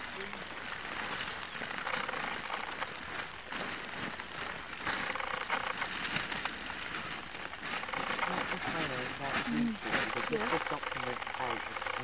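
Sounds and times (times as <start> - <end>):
wood chip rustling and crackling: 0.0 - 12.0.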